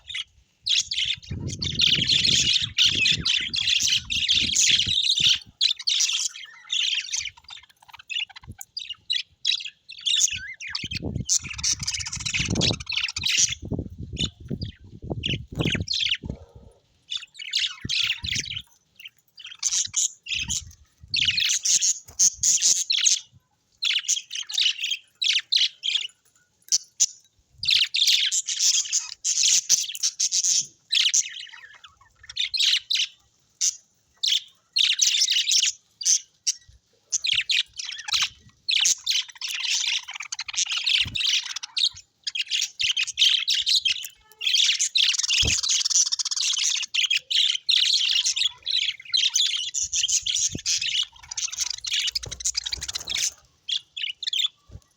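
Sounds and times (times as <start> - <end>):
parrots chirping and chattering: 0.0 - 54.9.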